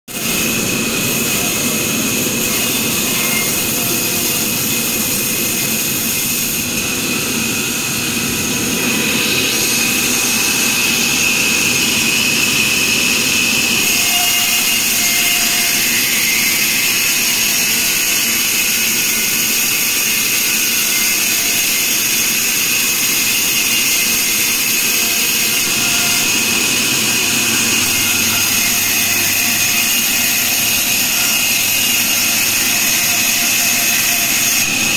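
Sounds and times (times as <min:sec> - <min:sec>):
band saw blade hissing through log: 0:00.1 - 0:34.9
machine high tones: 0:00.2 - 0:34.9.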